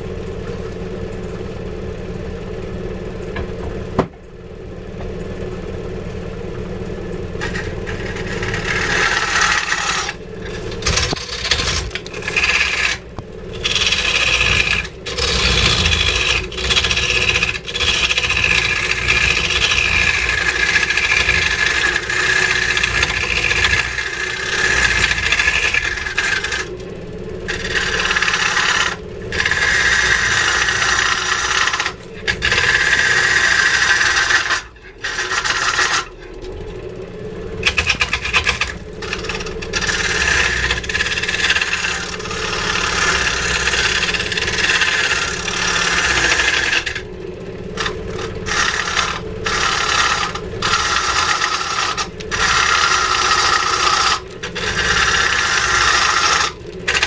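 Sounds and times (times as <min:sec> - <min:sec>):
low machine hum: 0:00.0 - 0:57.0
tool scraping wood: 0:07.3 - 0:57.0.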